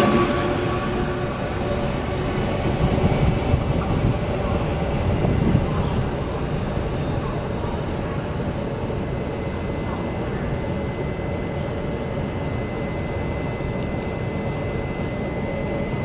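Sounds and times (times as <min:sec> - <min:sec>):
train rumbling down track: 0:00.0 - 0:16.0.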